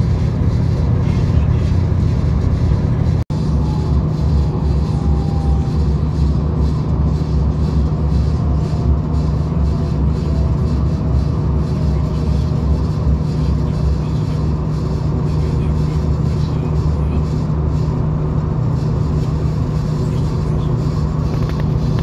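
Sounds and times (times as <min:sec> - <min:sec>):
faint gliding whine: 0:00.0 - 0:22.0
train rumble and drone: 0:00.0 - 0:22.0.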